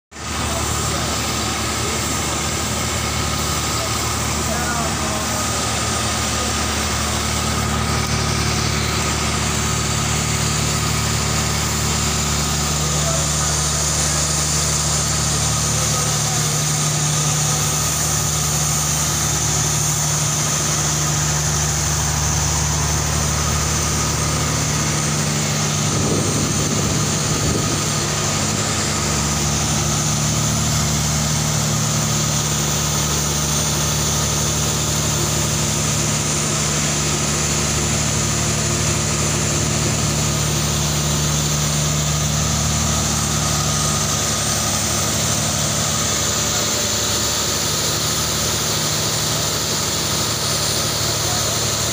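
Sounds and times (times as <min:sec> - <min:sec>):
engine humming: 0:00.1 - 0:51.9.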